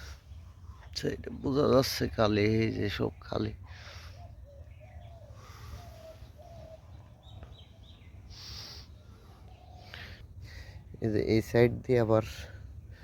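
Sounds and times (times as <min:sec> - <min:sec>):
birds calling: 0:00.0 - 0:13.0
steady low rumble: 0:00.0 - 0:13.0.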